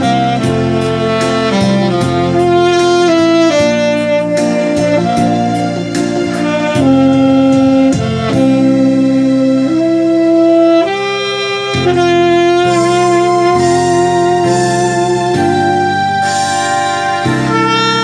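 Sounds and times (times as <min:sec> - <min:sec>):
tenor saxophone slow melody: 0:00.0 - 0:18.0.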